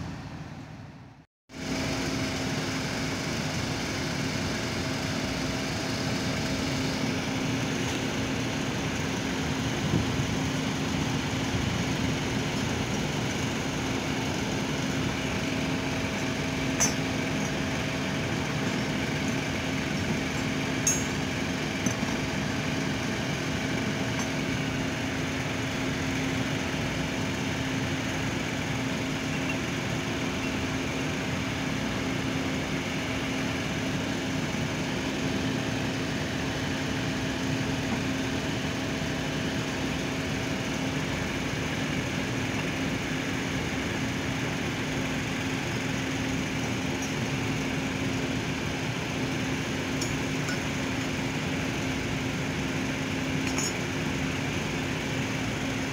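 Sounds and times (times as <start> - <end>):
machinery humming: 1.6 - 55.9.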